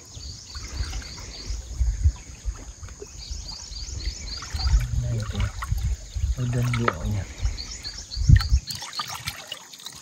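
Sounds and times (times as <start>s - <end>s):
bird chirping: 0.0s - 9.5s.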